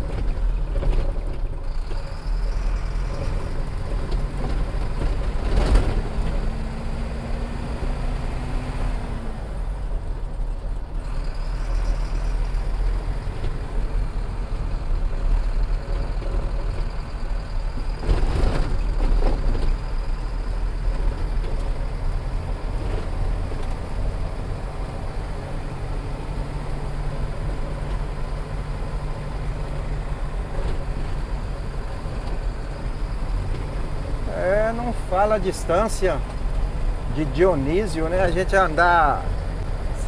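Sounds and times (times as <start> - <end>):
truck engine rumble: 0.0 - 40.0.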